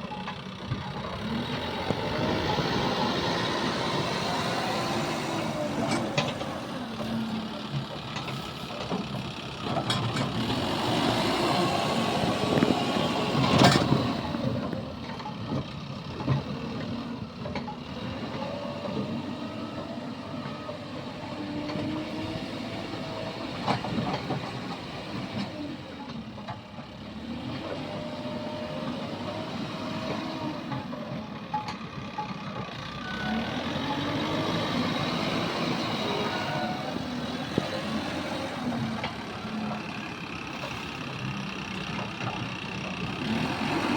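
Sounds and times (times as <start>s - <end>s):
heavy machinery diesel engines: 0.0s - 43.9s.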